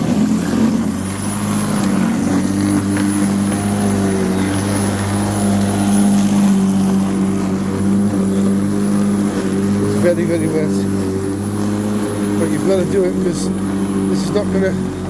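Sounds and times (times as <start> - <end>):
electric lawnmower running: 0.0 - 15.0.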